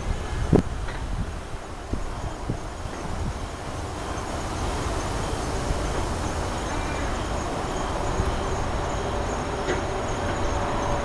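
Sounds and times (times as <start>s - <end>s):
distant city traffic rumble: 0.0s - 11.0s.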